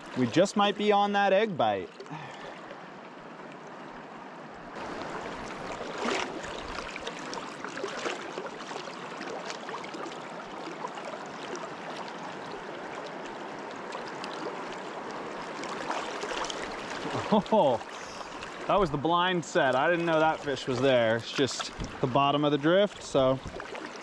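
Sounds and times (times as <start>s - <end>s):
river water rushing: 0.0s - 24.0s
small splashes: 4.8s - 24.0s.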